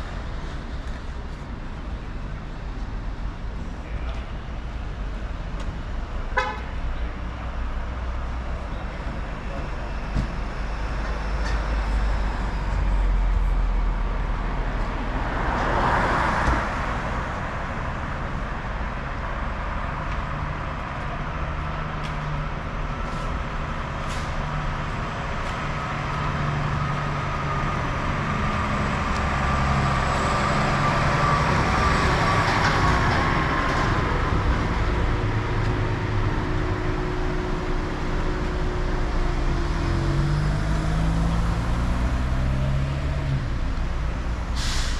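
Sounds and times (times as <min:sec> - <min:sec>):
vehicles passing: 0:00.0 - 0:44.9.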